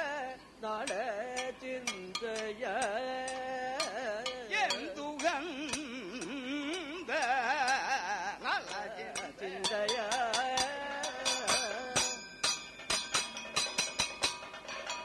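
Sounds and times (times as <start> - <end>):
man singing ornamented line: 0.0 - 12.4.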